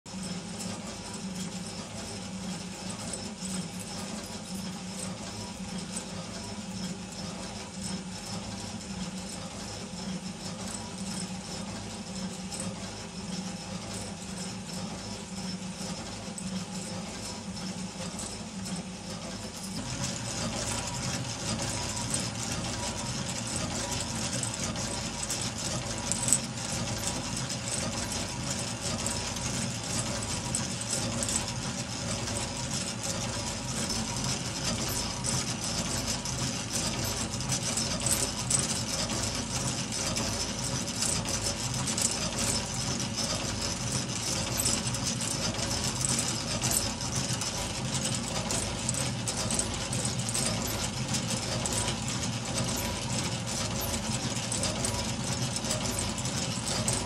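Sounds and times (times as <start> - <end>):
model steam engine whirring and rattling: 0.1 - 57.0.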